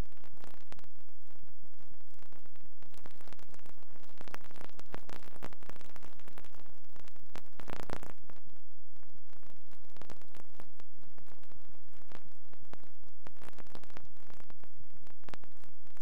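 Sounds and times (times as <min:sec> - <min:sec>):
crackle: 0:00.0 - 0:16.0
static hiss: 0:00.0 - 0:16.0.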